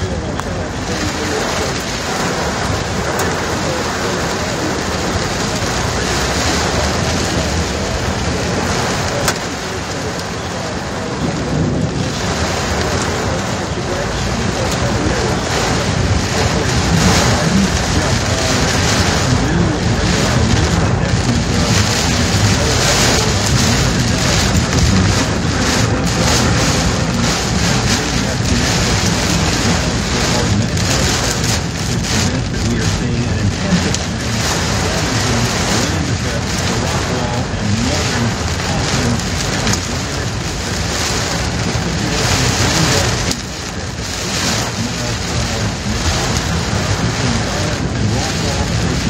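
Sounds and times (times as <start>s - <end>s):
heavy rain on car roof: 0.0s - 49.0s.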